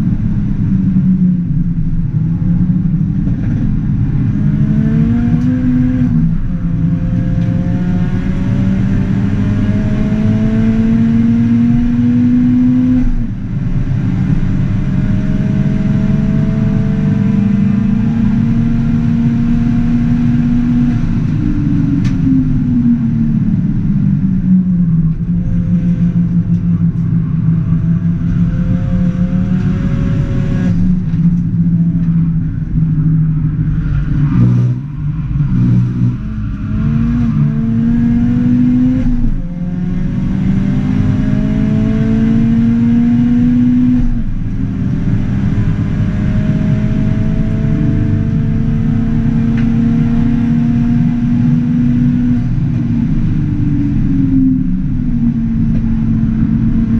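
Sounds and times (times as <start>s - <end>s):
car engine under hard driving: 0.0s - 56.9s.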